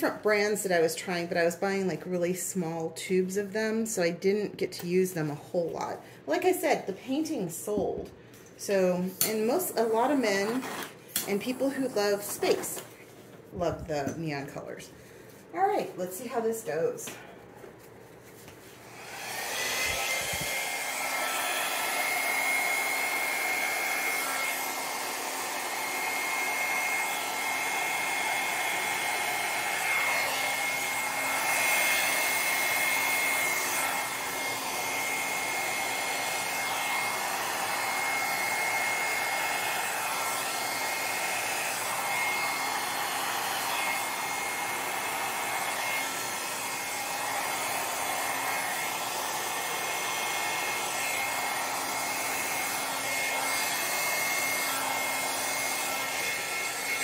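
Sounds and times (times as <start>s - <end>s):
hair dryer blowing with high whine: 0.0s - 17.3s, 18.4s - 57.0s.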